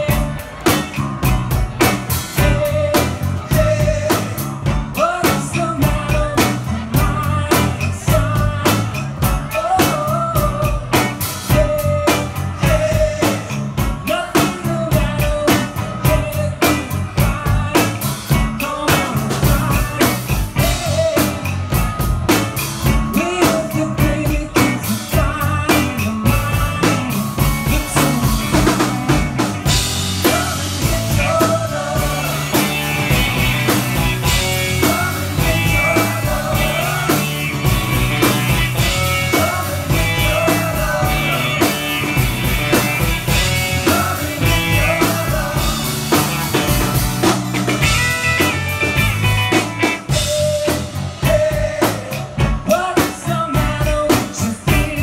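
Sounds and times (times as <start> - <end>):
person singing lead vocal: 0.0 - 48.6, 49.8 - 55.0
drum kit beat: 0.0 - 55.0
electric bass line: 0.0 - 55.0.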